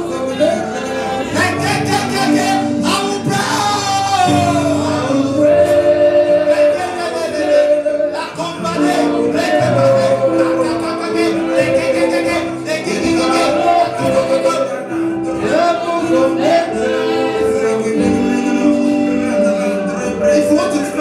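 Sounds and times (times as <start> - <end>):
gospel singing: 0.0 - 21.0.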